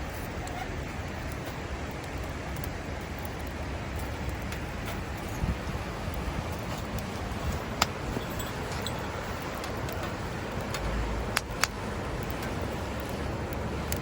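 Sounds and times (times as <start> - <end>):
burning firewood popping: 0.0 - 14.0
wind: 0.0 - 14.0.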